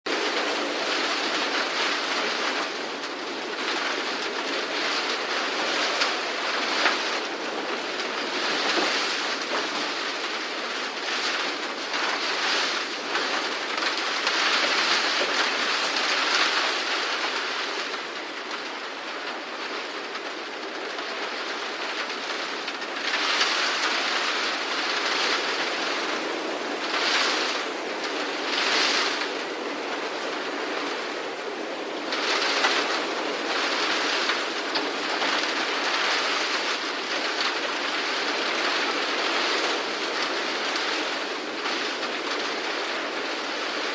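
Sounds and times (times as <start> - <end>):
heavy rain: 0.0 - 43.9
strong gusting wind: 0.1 - 43.9.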